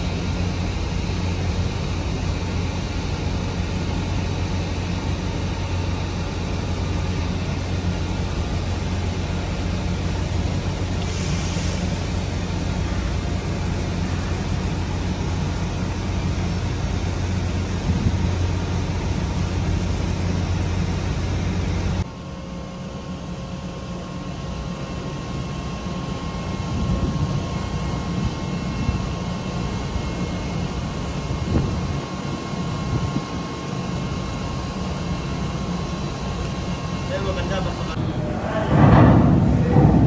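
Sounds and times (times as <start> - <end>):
ship machinery rumble: 0.0 - 40.0
wind: 0.0 - 40.0.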